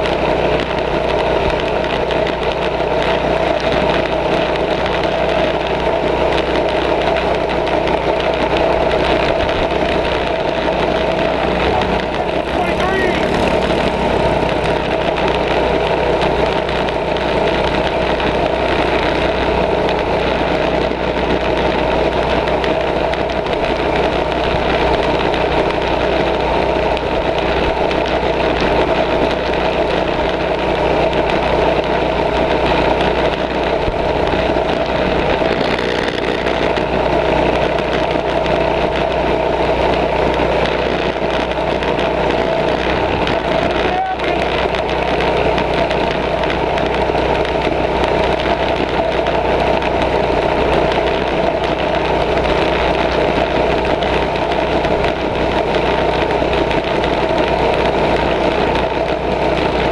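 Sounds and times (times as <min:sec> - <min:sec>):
mini bike engine running: 0:00.0 - 0:59.9.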